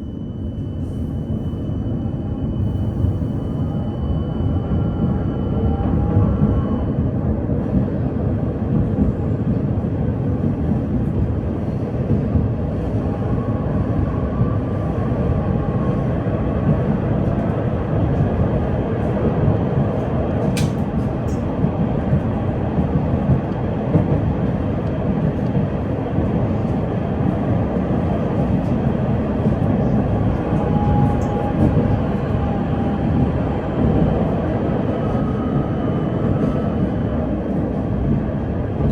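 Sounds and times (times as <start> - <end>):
tram wheels rumbling on rails: 0.1 - 38.9.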